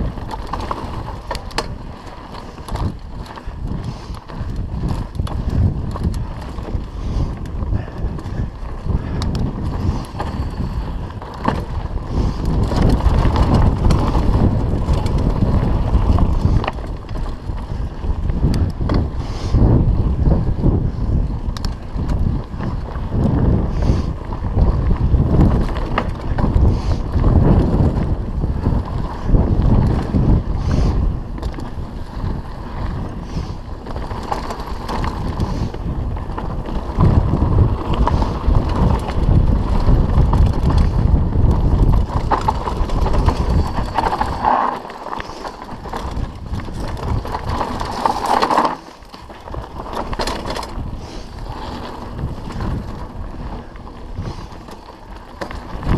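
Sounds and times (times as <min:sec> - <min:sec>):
bike rattling on dirt trail: 0:00.0 - 0:55.9
wind buffeting microphone: 0:00.0 - 0:55.9.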